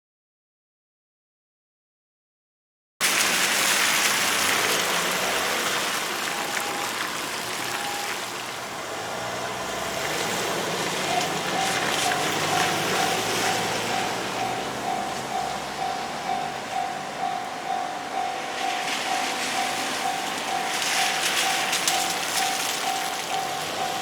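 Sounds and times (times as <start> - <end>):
steady rushing hiss: 3.2 - 24.0
level crossing alarm dinging: 4.6 - 24.0.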